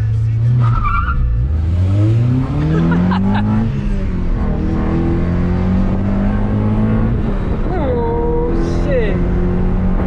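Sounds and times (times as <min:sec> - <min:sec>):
car engine accelerating hard: 0:00.4 - 0:10.0.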